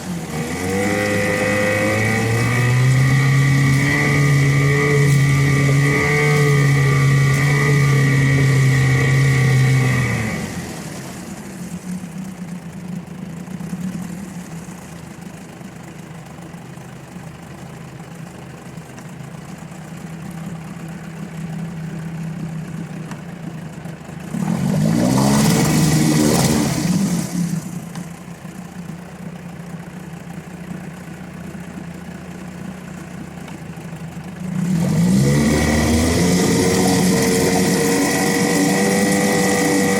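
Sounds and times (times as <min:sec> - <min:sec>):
outboard motor idling and revving: 0:00.0 - 0:39.9.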